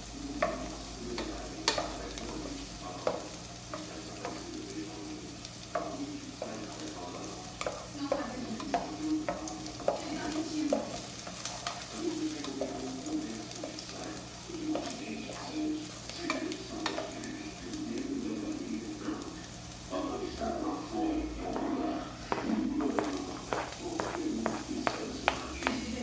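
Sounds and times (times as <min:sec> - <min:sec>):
onion sizzling in a pot: 0:00.0 - 0:26.0.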